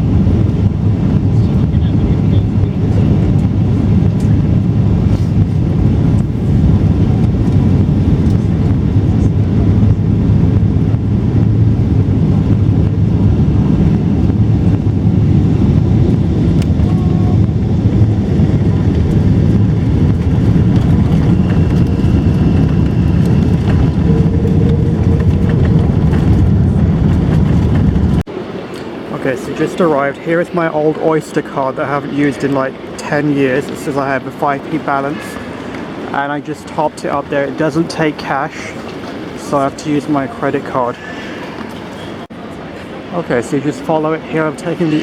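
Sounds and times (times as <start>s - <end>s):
airliner cabin low rumble: 0.0s - 45.0s.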